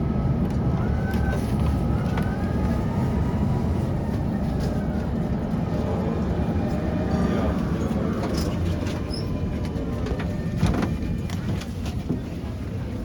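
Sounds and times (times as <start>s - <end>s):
tram rumbling: 0.0s - 13.0s.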